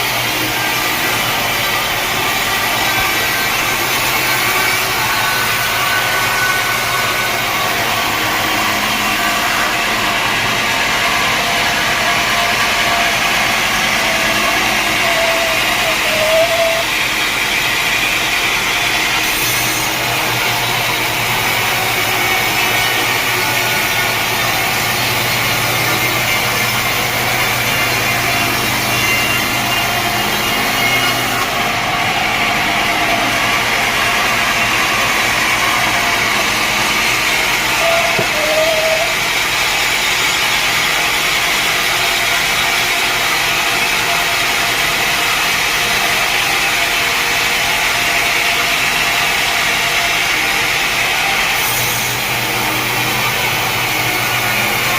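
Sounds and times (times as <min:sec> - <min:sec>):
machinery hum: 0:00.0 - 0:54.9
saw cutting timber: 0:00.0 - 0:54.9.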